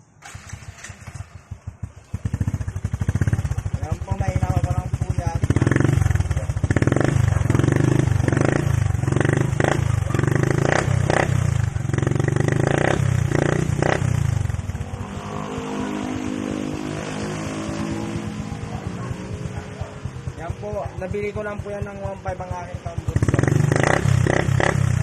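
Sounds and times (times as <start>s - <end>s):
motorcycle engine idling: 0.2s - 16.8s, 17.6s - 25.0s
motorcycle engine revving: 0.2s - 25.0s.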